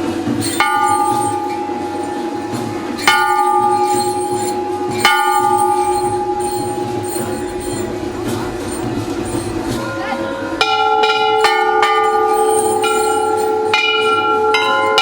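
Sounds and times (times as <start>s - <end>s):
temple bell struck by hand: 0.0s - 15.0s
low steady ringing tone: 0.4s - 9.9s, 10.5s - 15.0s.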